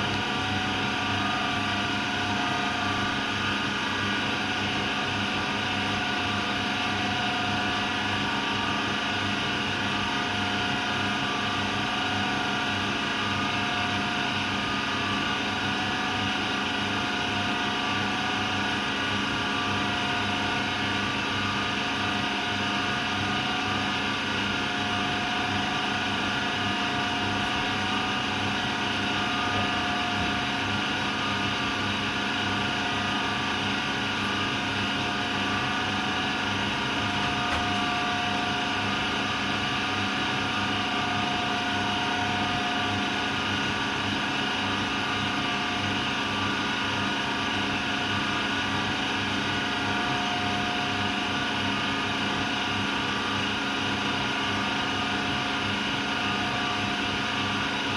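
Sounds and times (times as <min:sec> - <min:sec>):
washer-dryer motor whine: 0:00.0 - 0:57.9.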